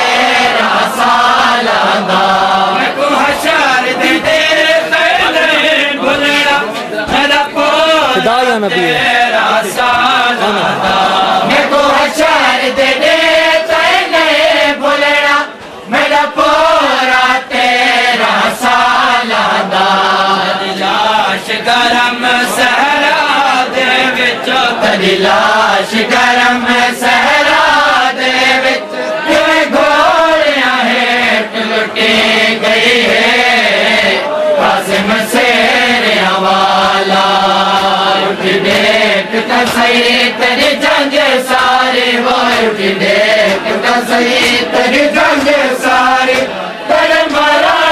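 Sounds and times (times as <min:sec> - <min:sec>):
men chanting a lament: 0:00.0 - 0:47.9.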